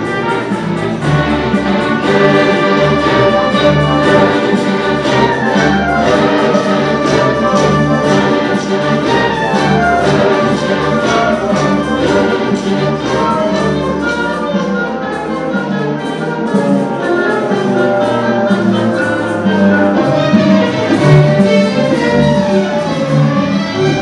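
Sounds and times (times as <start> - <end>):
orchestra strings playing: 0.0 - 24.0.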